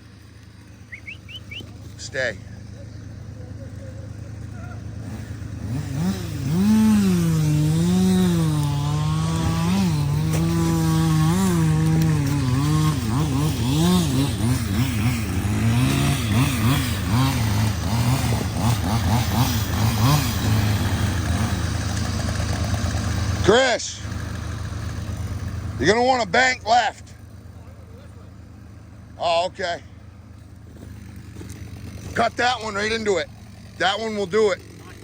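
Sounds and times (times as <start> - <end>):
chainsaw cutting: 0.0 - 27.6, 28.4 - 35.0
low engine drone: 0.0 - 35.0.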